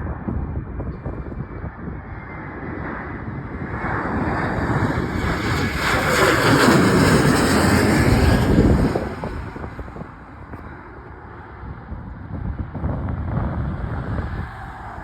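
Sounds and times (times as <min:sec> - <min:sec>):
jet airliner roar passing: 0:00.0 - 0:15.0.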